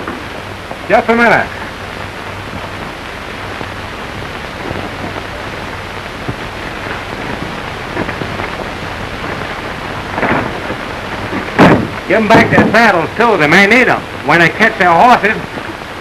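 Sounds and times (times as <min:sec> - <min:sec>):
film soundtrack hiss: 0:00.0 - 0:16.0
low hum: 0:00.0 - 0:16.0.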